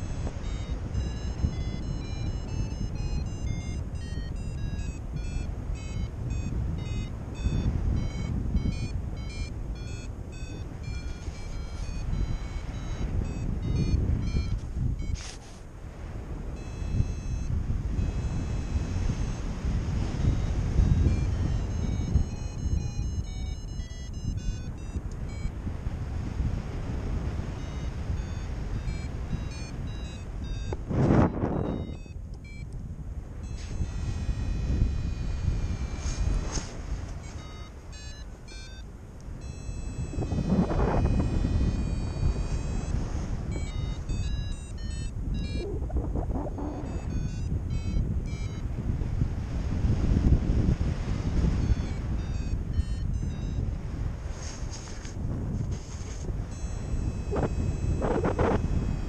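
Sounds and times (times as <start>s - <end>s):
variometer beeping: 0.0s - 15.4s, 16.5s - 25.8s, 27.2s - 32.8s, 33.4s - 48.8s, 51.2s - 53.9s, 56.4s - 59.0s
wind rushing over microphone: 0.0s - 59.0s.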